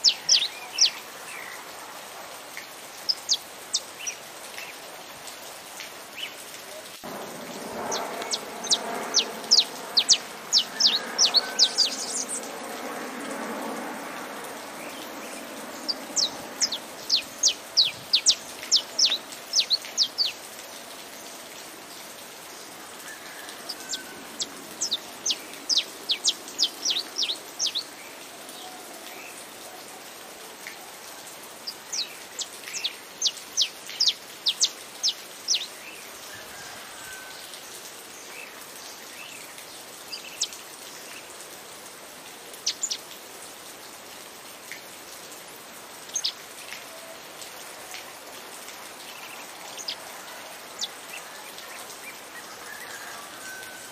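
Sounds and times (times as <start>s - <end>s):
rain hissing: 0.0s - 53.9s.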